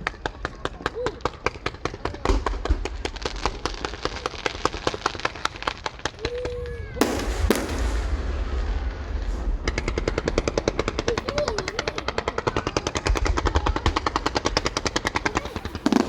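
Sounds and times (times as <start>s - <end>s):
fireworks cracking rapidly: 0.0s - 16.0s.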